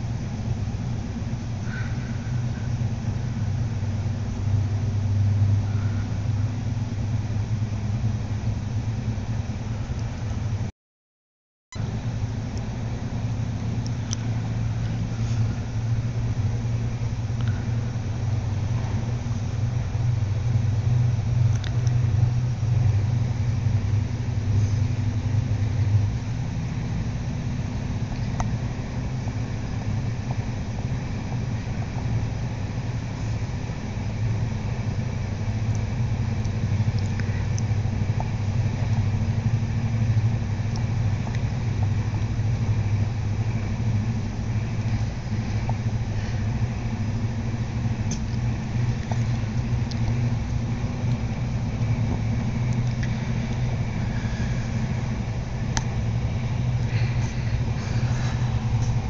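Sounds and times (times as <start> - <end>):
train rumbling on track: 0.0 - 10.7, 11.8 - 59.0.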